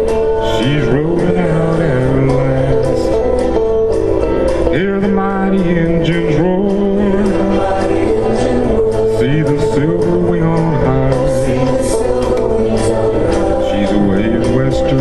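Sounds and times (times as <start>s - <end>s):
country folk ballad with guitar: 0.0s - 15.0s.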